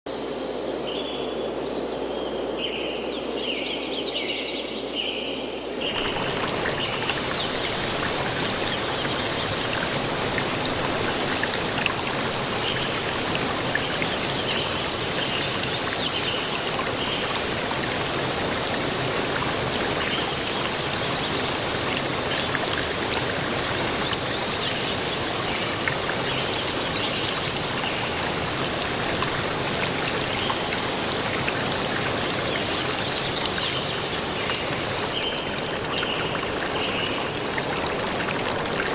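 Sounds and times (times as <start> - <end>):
rushing water: 5.6 - 38.9.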